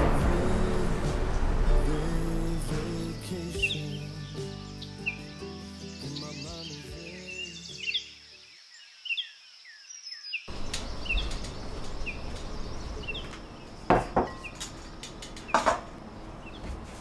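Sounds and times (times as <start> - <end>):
small birds chirping: 1.8 - 16.9.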